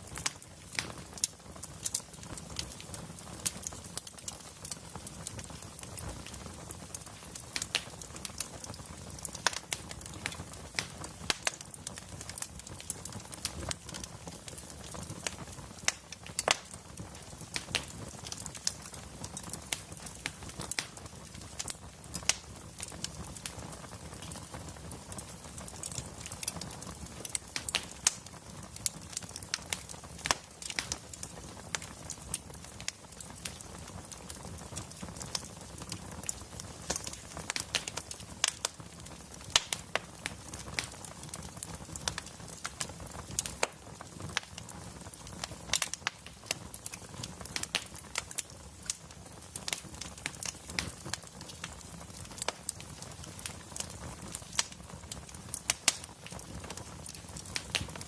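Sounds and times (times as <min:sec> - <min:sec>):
fire popping and snapping: 0:00.0 - 0:58.0
wood fire crackling: 0:00.0 - 0:58.0.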